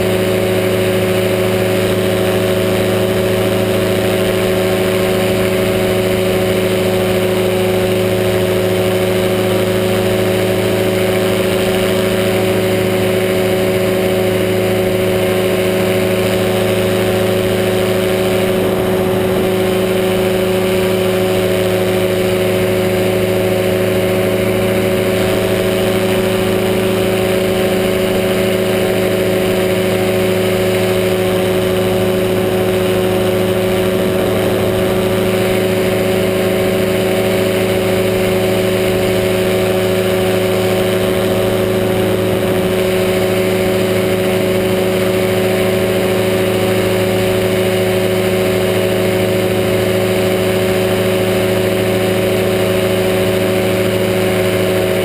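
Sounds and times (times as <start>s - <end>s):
engine and propeller droning: 0.0s - 55.0s.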